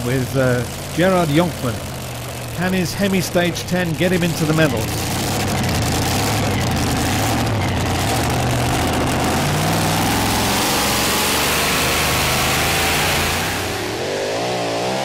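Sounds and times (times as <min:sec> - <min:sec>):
engine at full throttle: 0:00.0 - 0:15.0.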